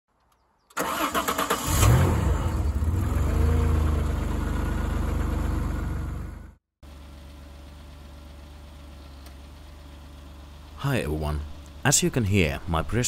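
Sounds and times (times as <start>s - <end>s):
car engine cranking and idling: 0.7s - 13.0s.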